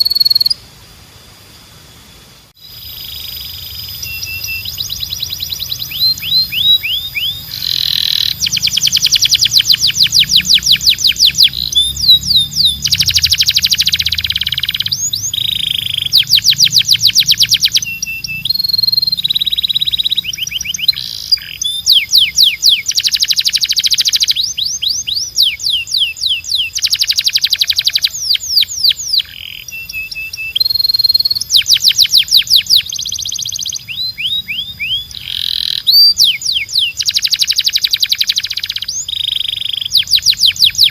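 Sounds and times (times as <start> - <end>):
canary singing trills: 0.0 - 0.6, 2.6 - 40.9.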